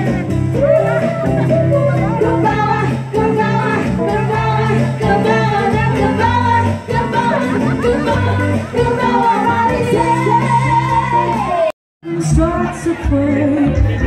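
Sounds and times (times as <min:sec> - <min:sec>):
amplified backing music: 0:00.0 - 0:14.0
woman singing into a microphone: 0:00.5 - 0:14.0.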